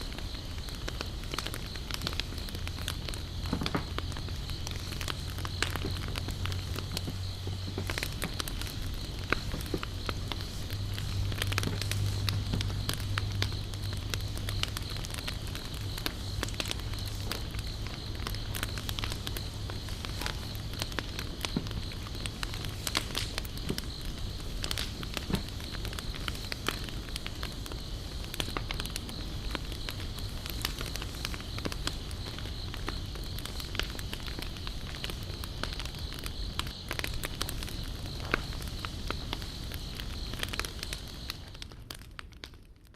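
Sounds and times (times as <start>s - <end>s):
high insect trill: 0.0s - 41.6s
campfire crackling and popping: 0.0s - 42.9s.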